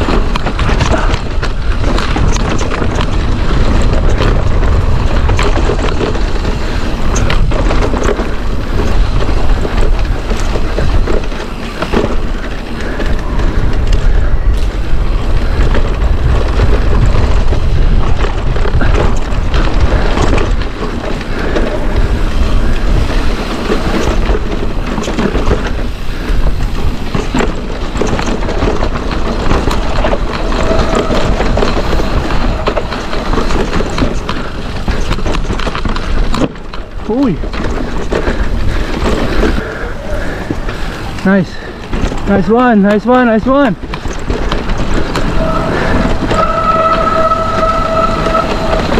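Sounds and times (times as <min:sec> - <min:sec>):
mountain bike rattling over rocks: 0:00.0 - 0:48.9
wheels knocking on rock: 0:00.0 - 0:48.9
wind rumbling on microphone: 0:00.0 - 0:48.9.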